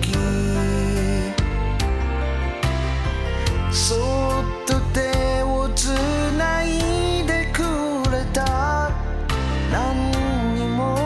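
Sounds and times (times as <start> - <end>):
background music with light beat: 0.0 - 11.0.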